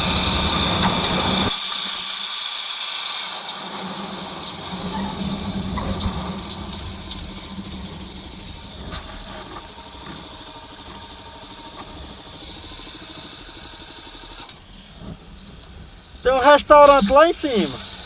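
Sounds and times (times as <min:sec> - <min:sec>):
motorcycle engine running: 0:00.0 - 0:02.2, 0:03.3 - 0:18.0
steady hiss: 0:00.0 - 0:18.0.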